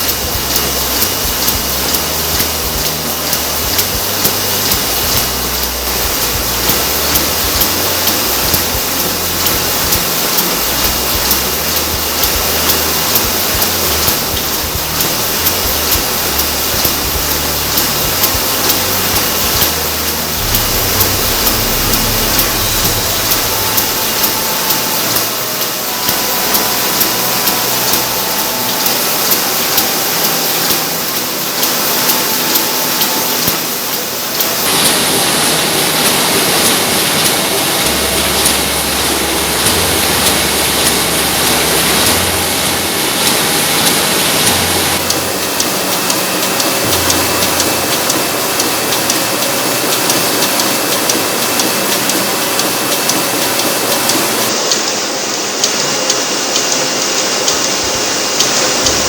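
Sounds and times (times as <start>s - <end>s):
printing machinery running: 0.0s - 59.0s.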